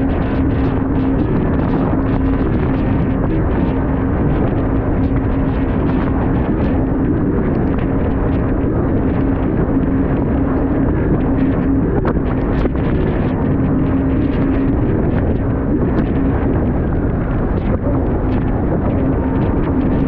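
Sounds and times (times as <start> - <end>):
jet ski engine droning: 0.0 - 20.0
wind rush on microphone: 0.0 - 20.0.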